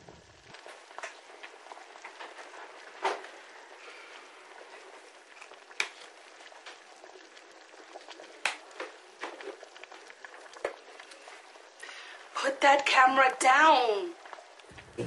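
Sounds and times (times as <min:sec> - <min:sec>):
steady kitchen hiss: 0:00.0 - 0:15.0.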